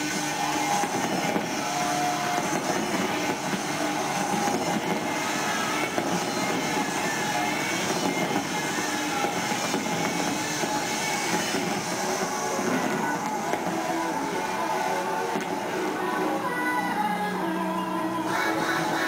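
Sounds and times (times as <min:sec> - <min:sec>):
fireworks rumble and crackle: 0:00.0 - 0:19.0.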